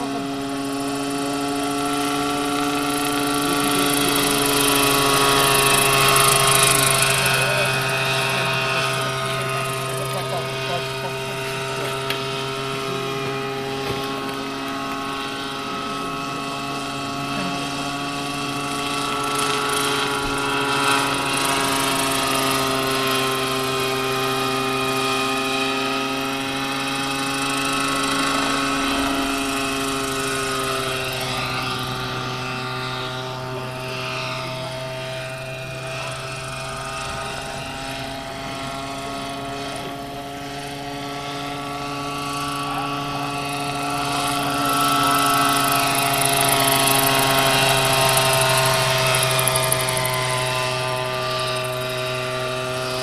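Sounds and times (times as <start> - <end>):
model helicopter motor whine: 0.0 - 53.0.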